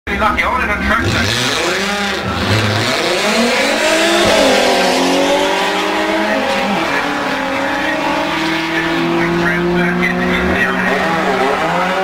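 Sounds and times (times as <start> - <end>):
drag car engines at full throttle: 0.1 - 12.0.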